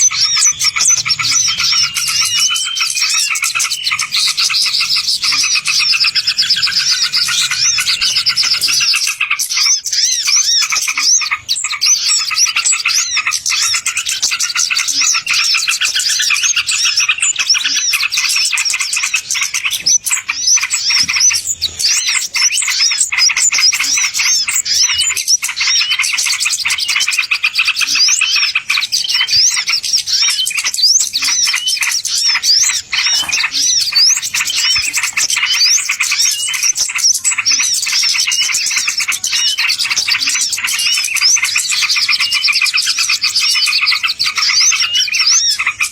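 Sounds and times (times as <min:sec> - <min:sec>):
songbirds chirping and twittering: 0:00.0 - 0:45.9.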